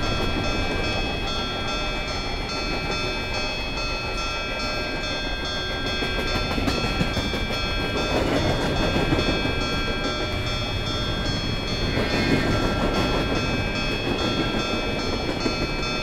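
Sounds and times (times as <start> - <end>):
model train wheels rumbling on rail: 0.0 - 16.0
steady high-pitched tones: 0.0 - 16.0.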